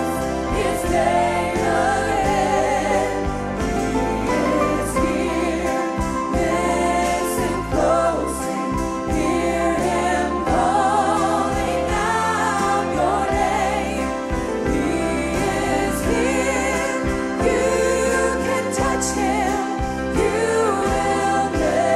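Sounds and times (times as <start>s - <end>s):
backing voices singing: 0.0s - 21.9s
band playing: 0.0s - 21.9s
woman singing gospel with vibrato: 0.0s - 21.9s.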